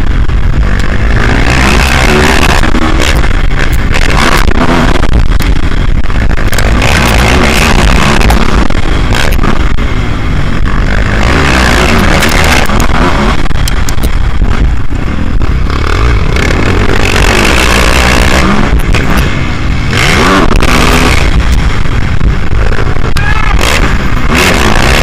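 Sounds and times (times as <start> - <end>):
motocross bike engine revving: 0.0 - 25.0
wind rumble on camera: 0.0 - 25.0.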